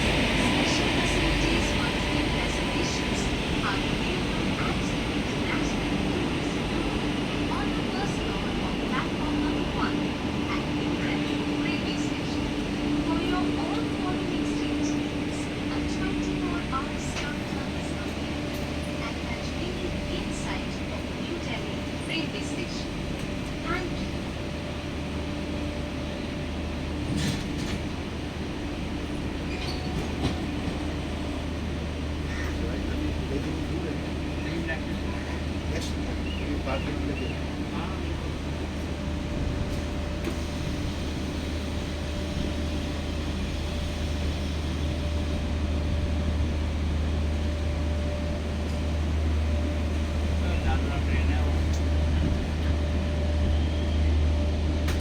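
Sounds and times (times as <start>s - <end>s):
train low rumble: 0.0s - 55.0s.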